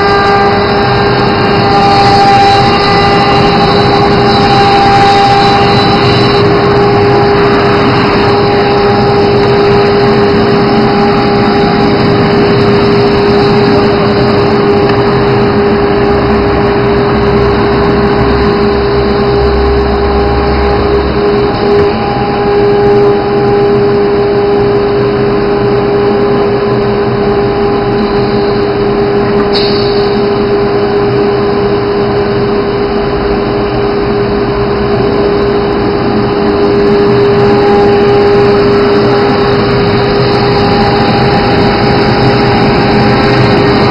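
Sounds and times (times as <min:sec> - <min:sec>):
cnc router spindle whine: 0:00.0 - 0:43.9.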